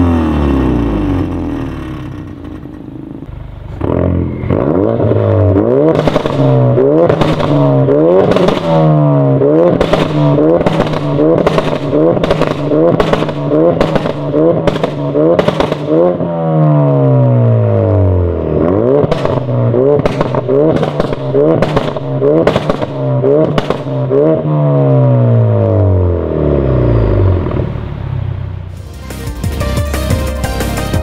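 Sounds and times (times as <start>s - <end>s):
exhaust cracks: 0.0s - 28.0s
car engine revving: 0.0s - 29.7s.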